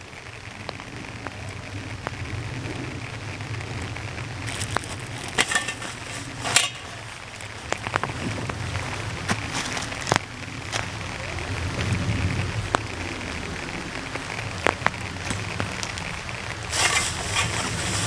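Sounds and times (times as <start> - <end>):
crackling rustles: 0.0 - 18.0
steady rain falling: 0.0 - 18.0.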